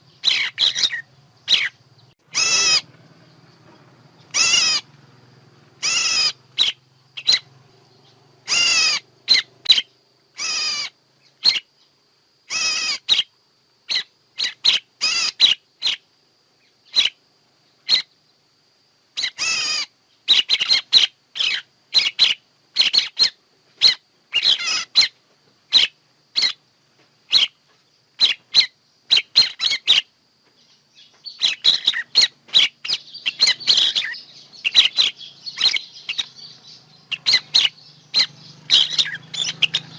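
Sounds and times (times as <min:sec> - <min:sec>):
harsh bird calls and chips: 0:00.0 - 0:05.0, 0:05.8 - 0:17.2, 0:19.2 - 0:39.9.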